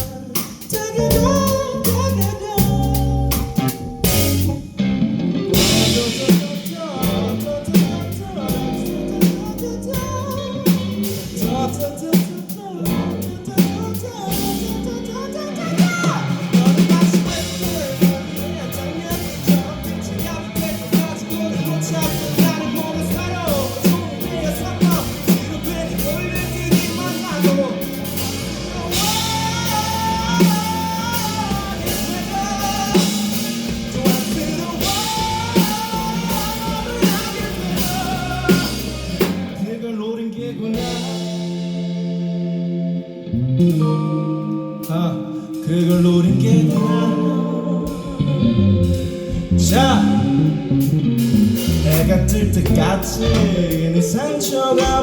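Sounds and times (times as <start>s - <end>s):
person singing: 0.0s - 4.8s, 5.5s - 42.6s, 43.3s - 55.0s
drum kit hits: 0.0s - 39.7s, 48.8s - 55.0s
electric guitars: 0.0s - 55.0s.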